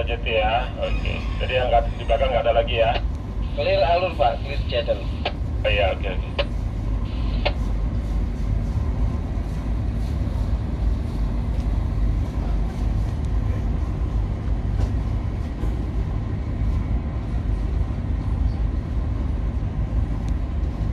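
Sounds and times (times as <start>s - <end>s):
ship engine rumble: 0.0s - 20.9s.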